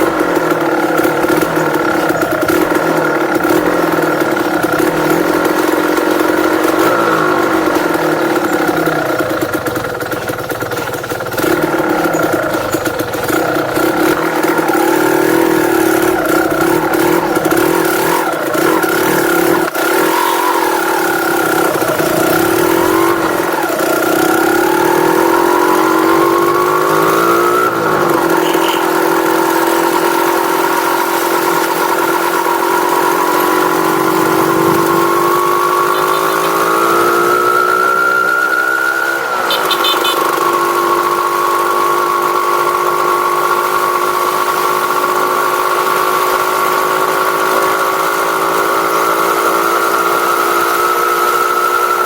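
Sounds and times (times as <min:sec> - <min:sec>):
vehicle engine revving: 0:00.0 - 0:52.0.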